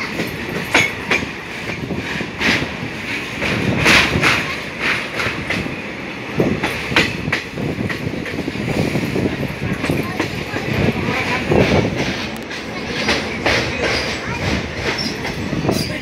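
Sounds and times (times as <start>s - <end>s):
train rumble: 0.0s - 16.0s
train wheels clattering over rails: 0.0s - 16.0s.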